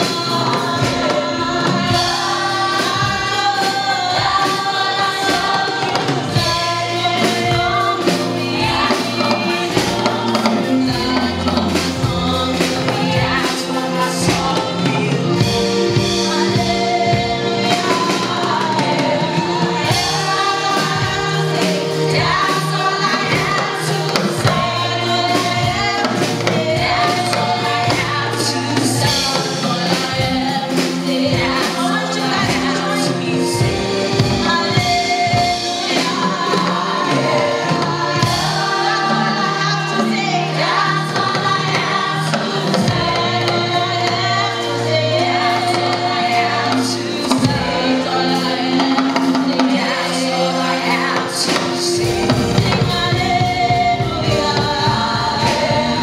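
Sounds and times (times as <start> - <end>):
drum kit: 0.0 - 56.0
keyboard: 0.0 - 56.0
women's choir singing gospel: 0.0 - 56.0.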